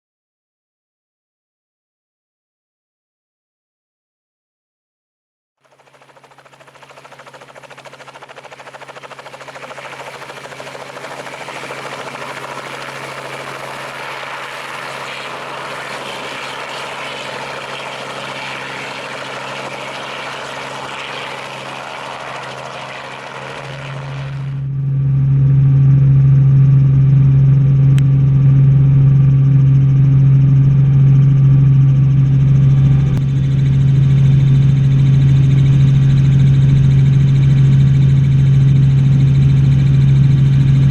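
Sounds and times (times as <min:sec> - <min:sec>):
helicopter engine and rotor: 0:05.6 - 0:40.9.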